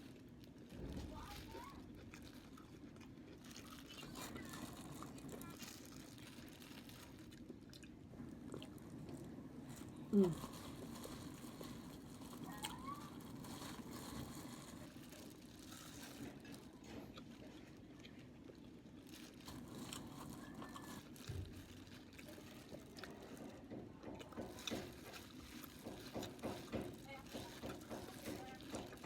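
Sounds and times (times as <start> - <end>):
chewing: 1.2 - 9.2, 9.8 - 29.0.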